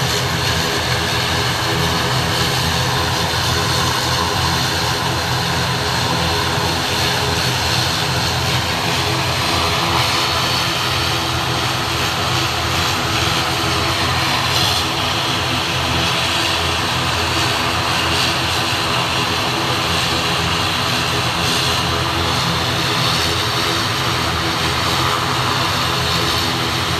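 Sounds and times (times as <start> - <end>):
turboprop engines droning: 0.0 - 26.9.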